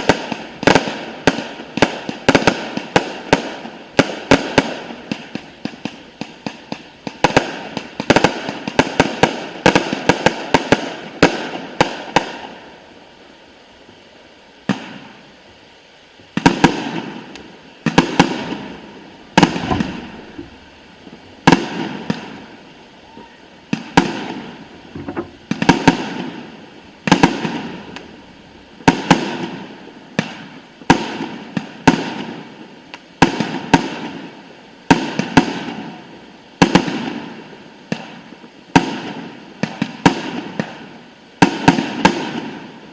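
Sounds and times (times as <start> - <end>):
fireworks bursting with sharp bangs: 0.0 - 42.9.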